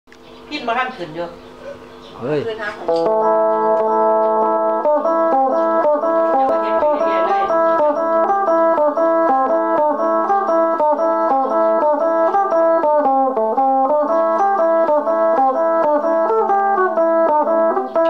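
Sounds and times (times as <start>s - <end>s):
plucked lute melody over drone: 2.7s - 18.0s.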